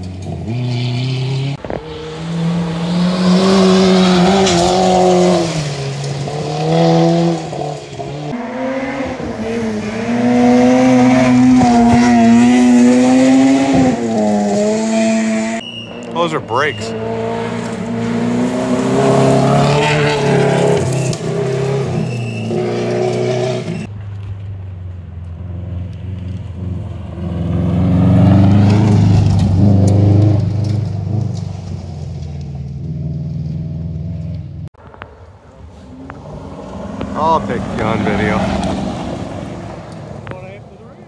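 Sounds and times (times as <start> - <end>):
rally car engines revving: 0.0 - 23.9, 25.3 - 34.5, 35.6 - 41.0
rally car passing close: 0.0 - 23.9, 25.4 - 34.3, 34.9 - 41.0
vehicle approaching: 0.0 - 41.0.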